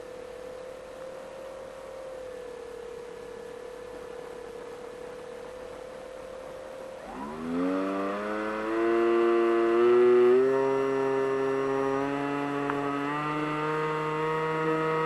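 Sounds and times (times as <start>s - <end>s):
model plane motor whine: 0.0s - 15.0s.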